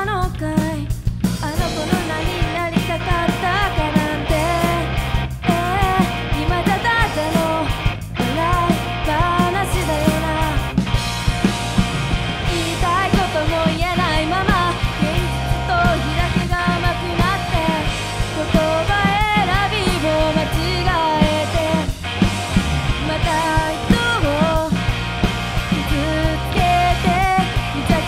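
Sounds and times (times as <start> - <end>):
bending lead guitar line: 0.0 - 28.0
drum kit: 0.0 - 28.0
electric bass: 0.0 - 28.0
electric guitar: 0.0 - 28.0.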